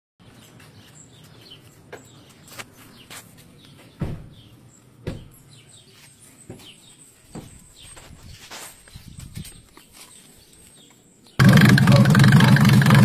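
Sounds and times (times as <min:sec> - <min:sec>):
birds chirping: 0:00.2 - 0:12.9.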